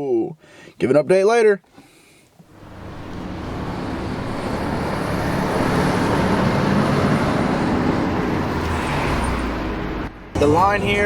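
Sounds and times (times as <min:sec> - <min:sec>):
vehicle engine and road rumble: 0:01.6 - 0:11.0.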